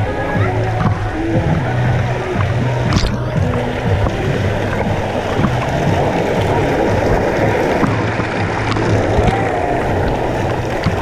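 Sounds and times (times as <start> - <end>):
river water sloshing and splashing: 0.0 - 11.0.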